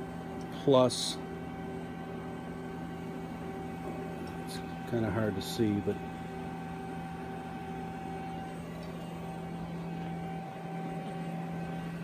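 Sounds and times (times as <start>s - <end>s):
machine hum with whine: 0.0s - 12.0s.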